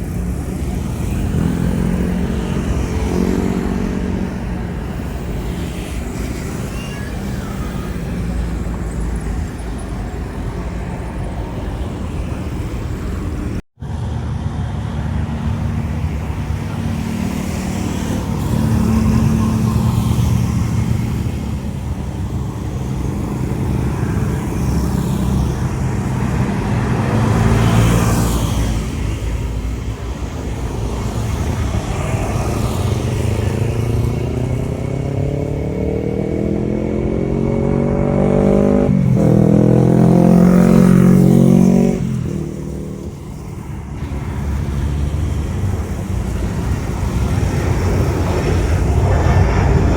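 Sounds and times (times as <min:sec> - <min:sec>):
distant jet airliner: 0:00.0 - 0:49.9
road traffic rumble: 0:00.0 - 0:49.9.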